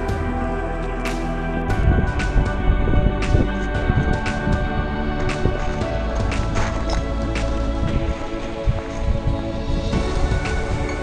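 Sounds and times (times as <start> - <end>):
background music: 0.0 - 11.0
low thumps: 0.0 - 11.0.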